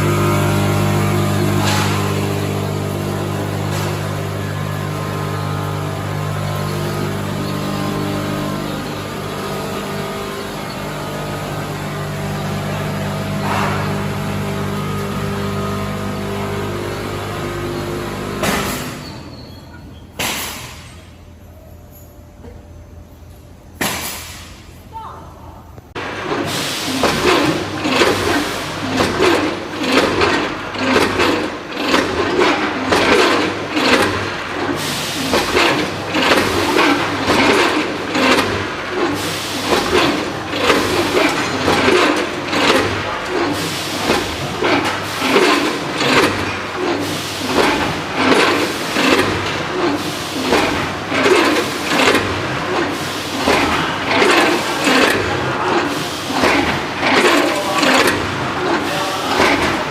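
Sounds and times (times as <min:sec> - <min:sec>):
bagging machine mechanical stroke: 0:00.0 - 0:22.0, 0:25.9 - 0:59.9
machine running noise: 0:00.0 - 0:24.9, 0:25.6 - 0:59.9.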